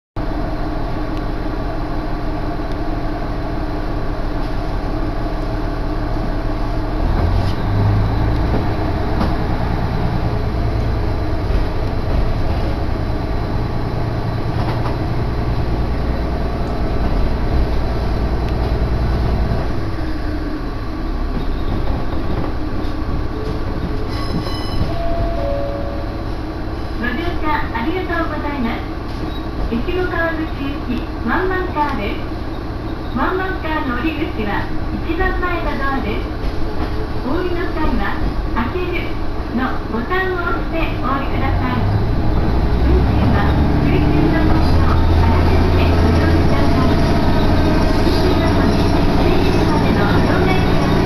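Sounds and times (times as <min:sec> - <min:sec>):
diesel railcar engine drone: 0:00.2 - 0:51.0
rail noise: 0:00.2 - 0:51.0.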